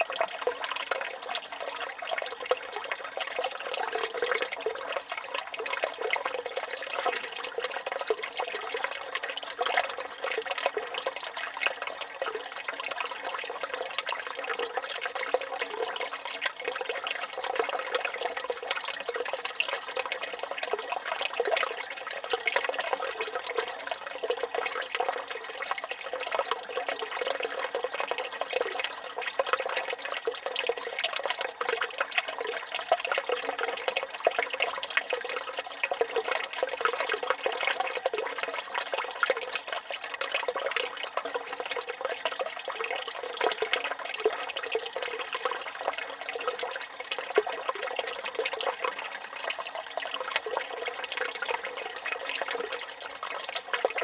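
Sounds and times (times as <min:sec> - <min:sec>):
fountain water pouring and splashing: 0:00.0 - 0:54.0.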